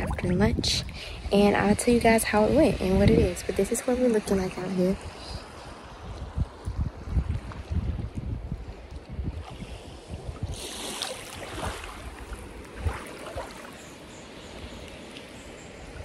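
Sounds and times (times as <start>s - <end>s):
water sloshing and lapping: 0.0s - 16.0s
wind rumble on microphone: 0.0s - 16.0s.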